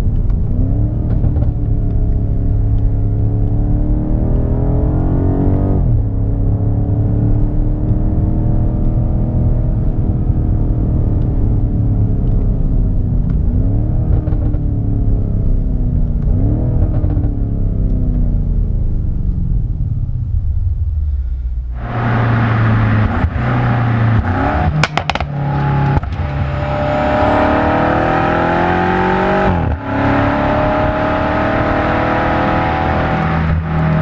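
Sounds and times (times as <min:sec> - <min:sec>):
car engine accelerating: 0:00.0 - 0:20.9, 0:21.6 - 0:34.0.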